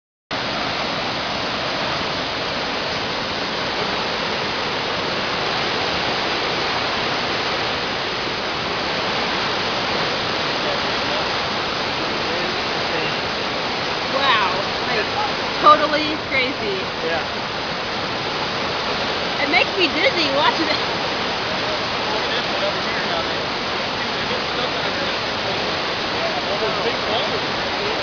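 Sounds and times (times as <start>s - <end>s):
river rushing: 0.3s - 28.0s.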